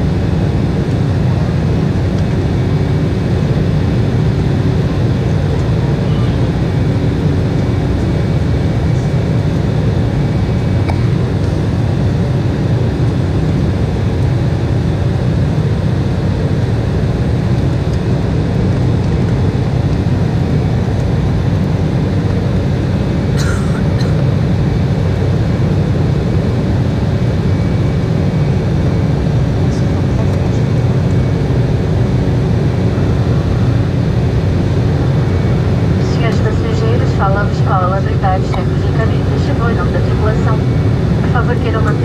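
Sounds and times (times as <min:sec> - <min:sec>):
jet engines droning: 0:00.0 - 0:42.0.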